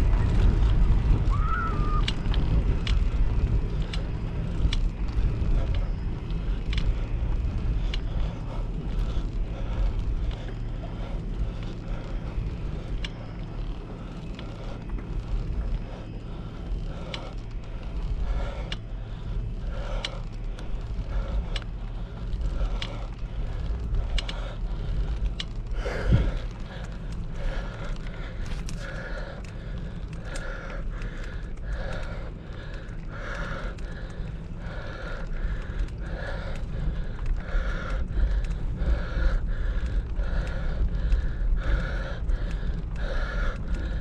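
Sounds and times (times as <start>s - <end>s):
bicycle tyres rolling on pavement: 0.0s - 44.0s
small ticks: 0.0s - 44.0s
wind buffeting microphone: 0.0s - 44.0s.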